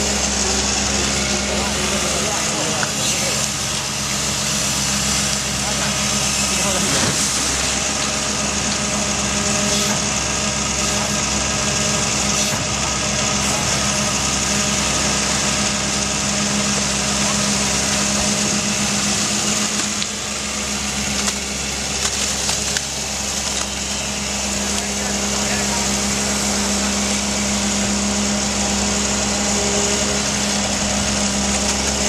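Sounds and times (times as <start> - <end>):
diesel engine running under load: 0.0 - 32.0.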